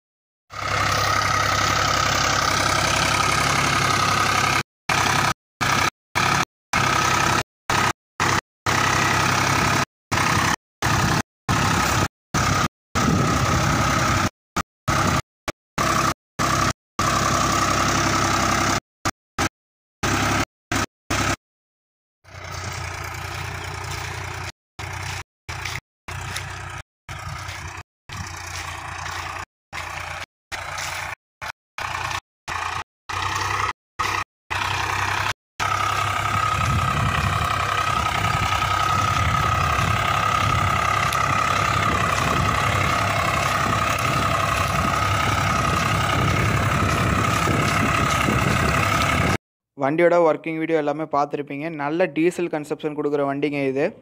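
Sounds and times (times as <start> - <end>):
tractor diesel engine running: 0.5 - 21.4, 22.2 - 49.4.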